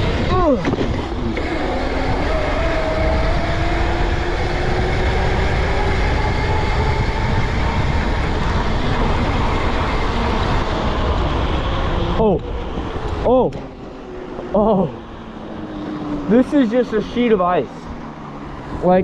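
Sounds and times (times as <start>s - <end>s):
electric dirt bike motor whining: 0.0s - 19.0s
wind rush on microphone: 0.0s - 19.0s.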